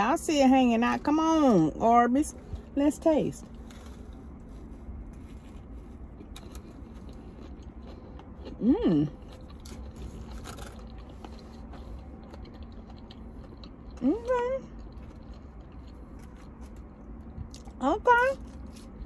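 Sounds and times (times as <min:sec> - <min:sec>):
steady low hum: 0:00.0 - 0:19.0
person chewing with crunching: 0:02.3 - 0:19.0.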